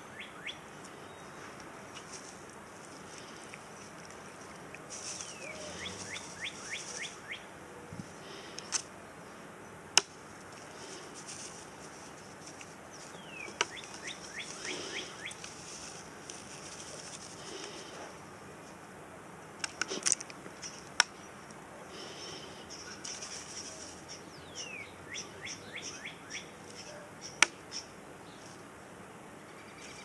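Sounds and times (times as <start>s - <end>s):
songbird singing: 0.0s - 17.9s, 19.7s - 30.0s.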